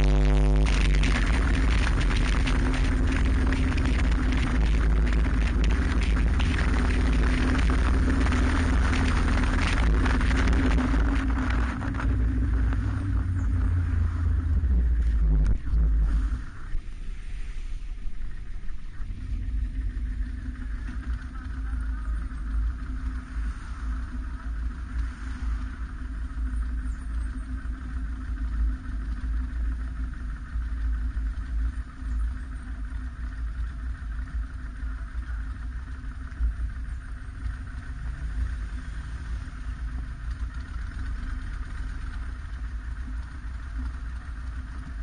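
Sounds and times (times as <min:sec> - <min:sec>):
low rumble: 0:00.0 - 0:45.0
motorcycle engine at low revs: 0:00.0 - 0:45.0.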